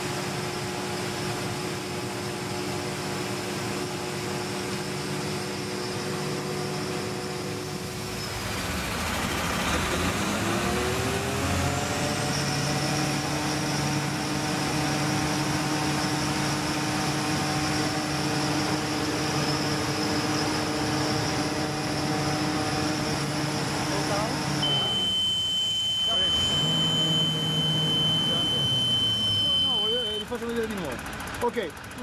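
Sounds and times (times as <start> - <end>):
pump engine drone with high whine: 0.0 - 32.0.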